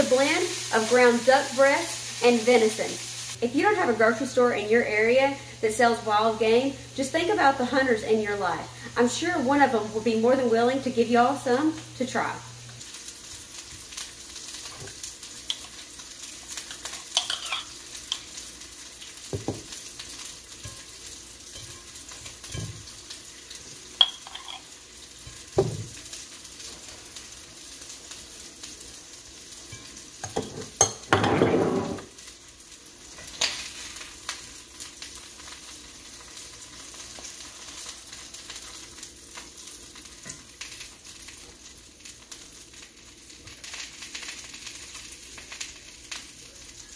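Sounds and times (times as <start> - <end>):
patties sizzling in a skillet: 0.0 - 46.9.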